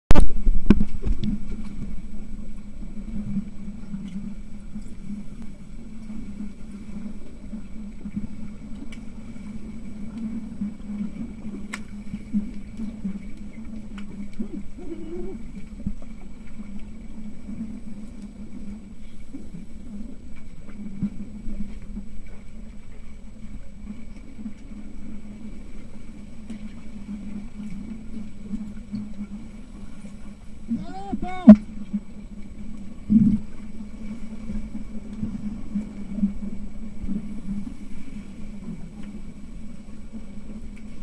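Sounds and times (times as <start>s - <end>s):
muffled underwater churning: 0.1s - 41.0s.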